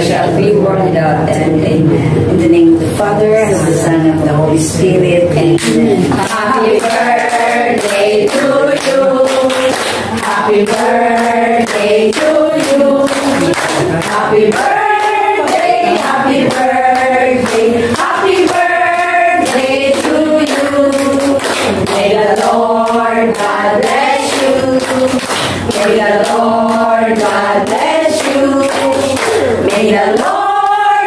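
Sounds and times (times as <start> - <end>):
group singing a birthday song: 0.0 - 31.0
hand claps: 5.6 - 30.9.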